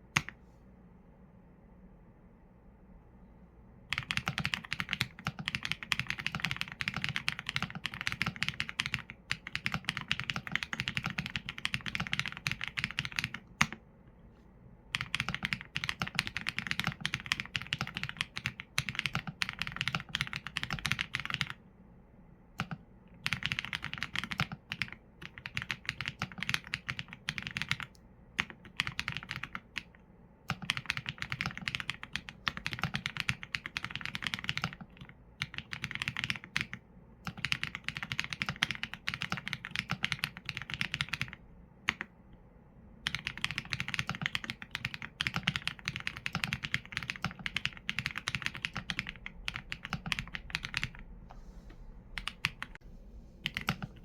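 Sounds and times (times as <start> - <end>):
mechanical keyboard typing: 0.2 - 0.4, 3.9 - 13.8, 14.9 - 21.6, 22.6 - 42.1, 43.0 - 51.1, 52.2 - 52.8, 53.4 - 54.0.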